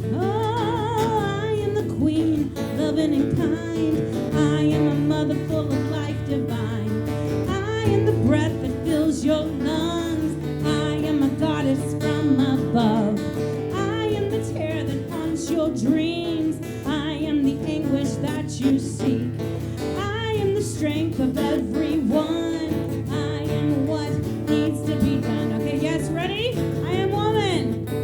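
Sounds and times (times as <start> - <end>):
acoustic guitar: 0.0 - 28.0.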